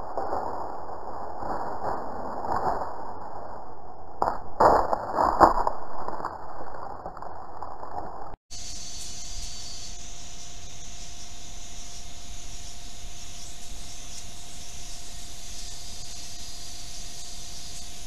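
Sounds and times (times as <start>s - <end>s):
faint high electronic whine: 0.0s - 18.0s.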